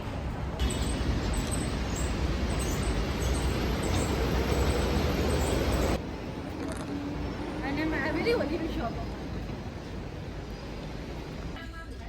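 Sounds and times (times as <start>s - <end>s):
moving vehicle rumble: 0.0s - 11.6s.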